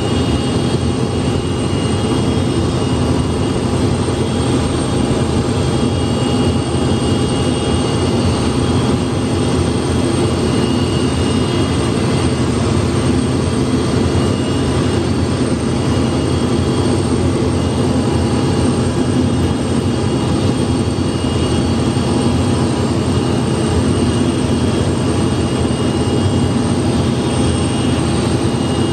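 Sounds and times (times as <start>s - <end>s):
turbine whine: 0.0s - 28.9s.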